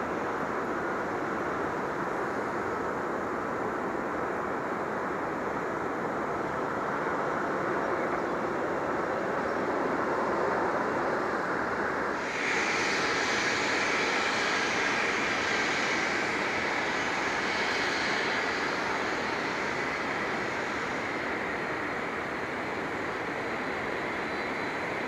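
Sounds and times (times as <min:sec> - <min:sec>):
jet airliner engines running: 0:00.0 - 0:25.0.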